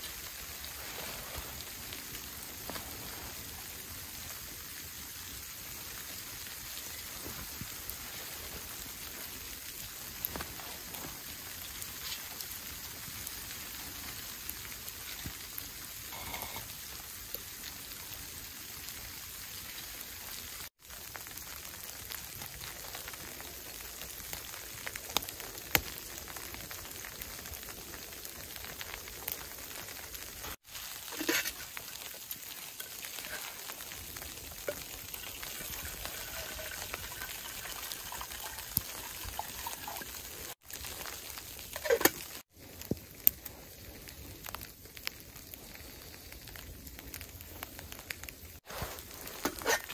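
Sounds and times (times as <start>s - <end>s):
wet snow pattering on tarp: 0.0s - 49.9s.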